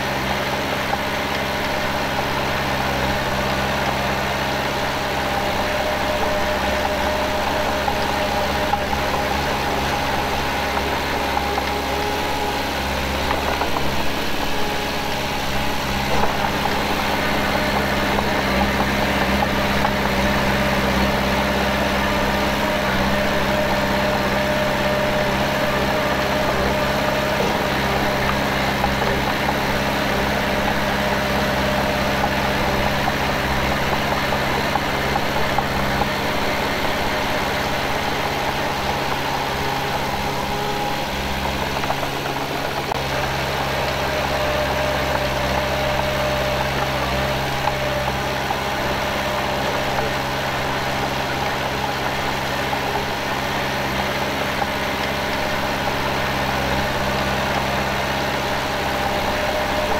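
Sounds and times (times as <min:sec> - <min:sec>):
heavy diesel engine rumbling: 0:00.0 - 0:59.9.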